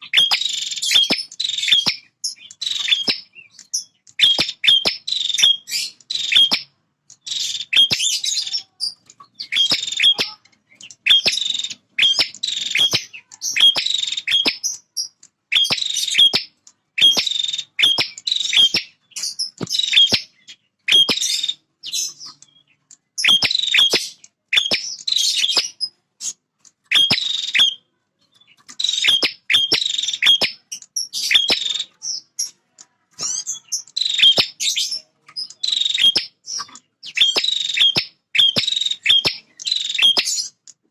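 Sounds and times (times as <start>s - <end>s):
bird calling in rapid bursts: 0.0s - 32.6s, 33.2s - 40.6s.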